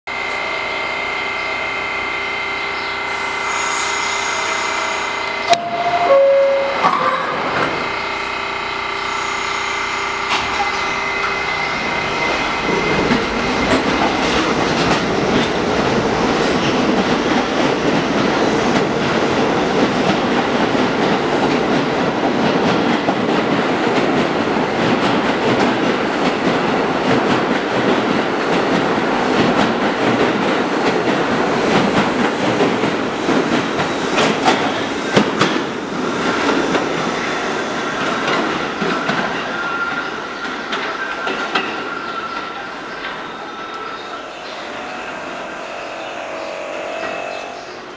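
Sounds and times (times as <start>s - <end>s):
subway train hum and rumble: 0.1s - 47.9s.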